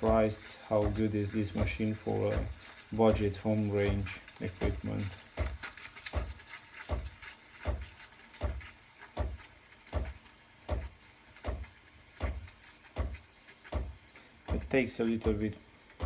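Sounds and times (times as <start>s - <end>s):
espresso machine steaming milk: 0.0s - 16.0s
pump pulsing: 0.0s - 16.0s.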